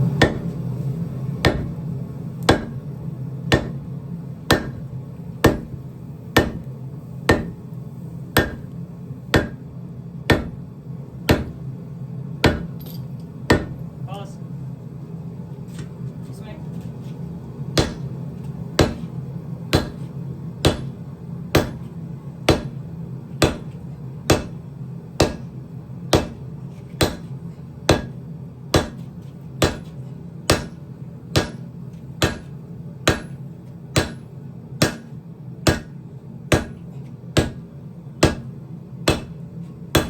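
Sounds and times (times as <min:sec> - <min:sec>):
hammer striking hot steel: 0:00.0 - 0:00.7, 0:01.4 - 0:01.8, 0:02.4 - 0:03.9, 0:04.5 - 0:06.7, 0:07.3 - 0:11.7, 0:12.4 - 0:13.9, 0:17.7 - 0:40.0
low steady hum: 0:00.0 - 0:40.0.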